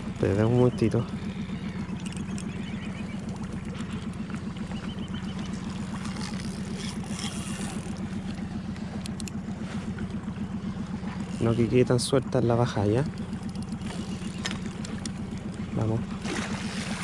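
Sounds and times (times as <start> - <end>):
engine humming with fast pulse: 0.0 - 17.0.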